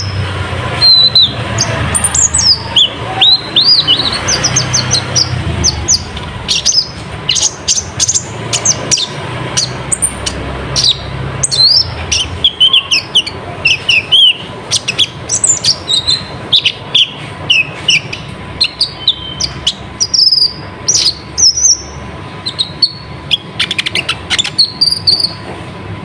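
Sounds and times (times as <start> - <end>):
sunbird singing sharp chirps: 0.8 - 25.4.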